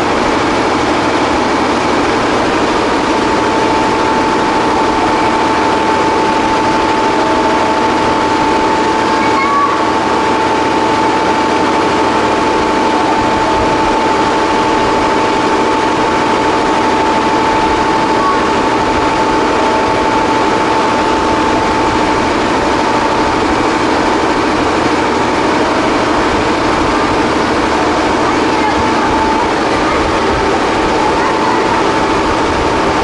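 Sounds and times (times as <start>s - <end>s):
constant high whine: 0.0s - 33.0s
vehicle interior running noise: 0.0s - 33.0s.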